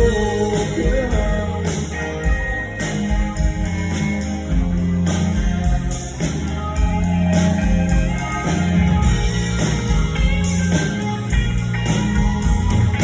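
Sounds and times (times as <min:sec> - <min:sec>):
live country band instrumental: 0:00.0 - 0:13.0.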